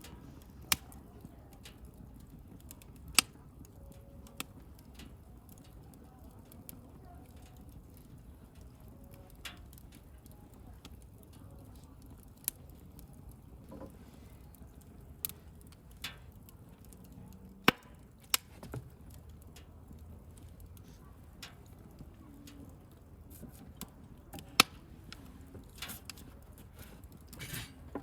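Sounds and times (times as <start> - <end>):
bonfire pops and snaps: 0.0 - 28.0
low rumble of burning fire: 0.0 - 28.0.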